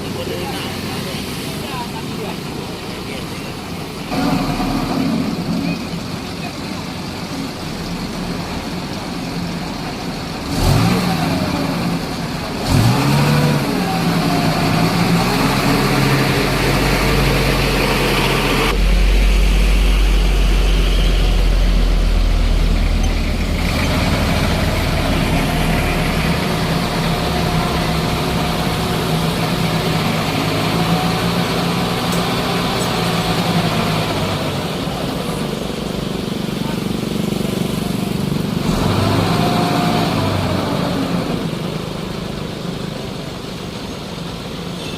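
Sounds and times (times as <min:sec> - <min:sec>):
vehicle engine revving: 0:03.8 - 0:43.7.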